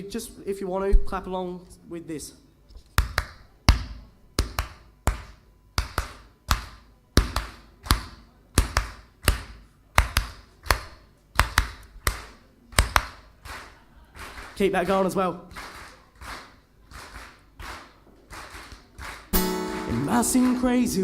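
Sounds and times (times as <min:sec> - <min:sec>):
hand claps in a hall: 0:02.8 - 0:21.0.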